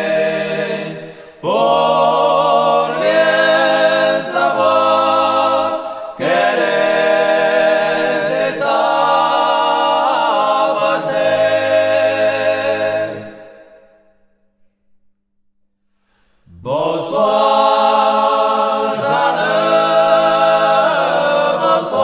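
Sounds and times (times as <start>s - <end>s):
men singing in harmony: 0.0s - 13.5s, 16.5s - 22.0s.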